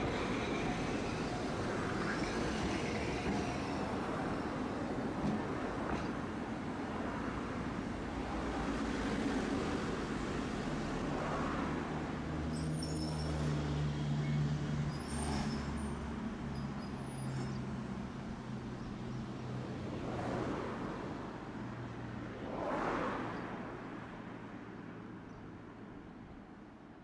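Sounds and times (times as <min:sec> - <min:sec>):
streetcar motor hum: 0:00.0 - 0:21.7.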